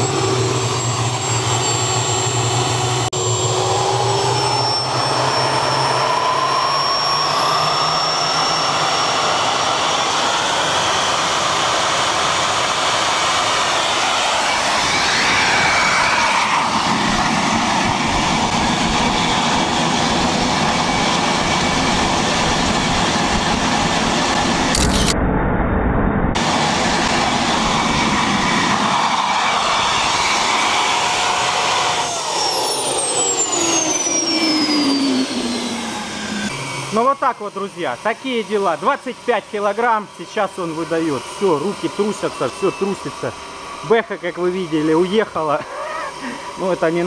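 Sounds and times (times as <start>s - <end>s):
jet engine roar: 0.0s - 47.0s
turbine whine: 0.0s - 47.0s.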